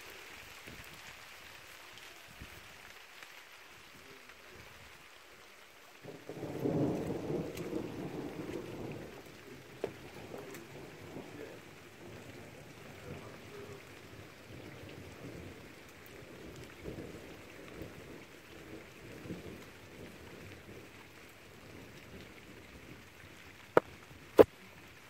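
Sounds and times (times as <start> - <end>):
rain-like hiss: 0.0 - 25.0.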